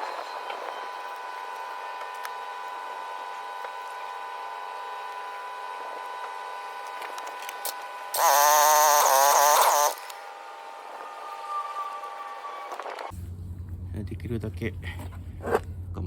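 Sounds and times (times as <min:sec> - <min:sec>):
power tool running: 0:00.0 - 0:13.1.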